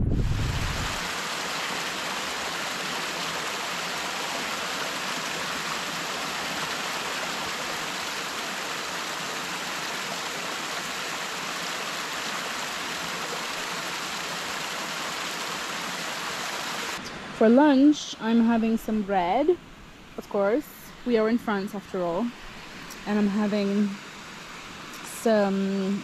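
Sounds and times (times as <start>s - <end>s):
stream cascading over rocks: 0.5s - 21.2s, 21.8s - 26.0s.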